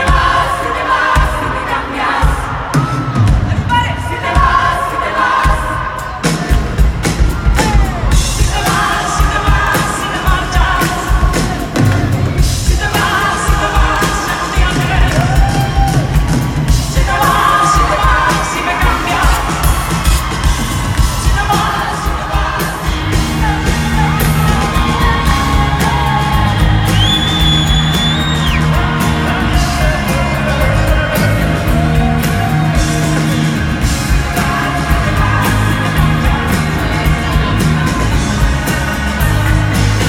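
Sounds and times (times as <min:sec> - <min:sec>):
crowd yelling and whooping: 0:00.0 - 0:40.0
person singing: 0:00.0 - 0:40.0
pop-rock band playing live: 0:00.0 - 0:40.0.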